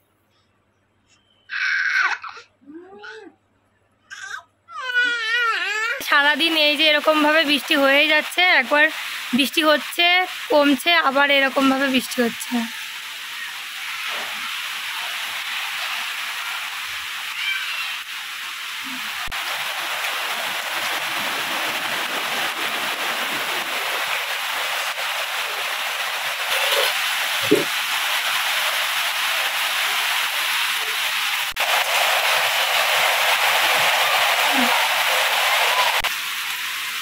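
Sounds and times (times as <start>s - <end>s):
rain falling steadily: 4.8s - 37.0s.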